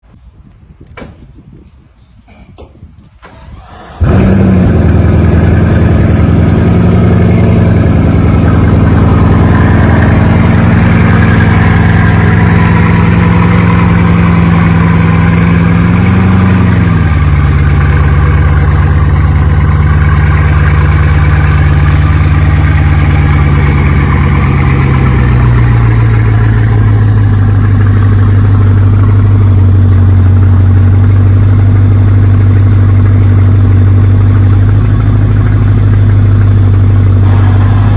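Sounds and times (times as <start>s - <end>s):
car engine idling fast: 3.4s - 37.9s.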